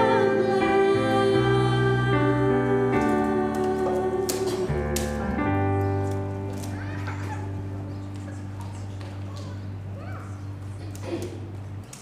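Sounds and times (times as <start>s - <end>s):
sustained worship chords: 0.0s - 10.6s.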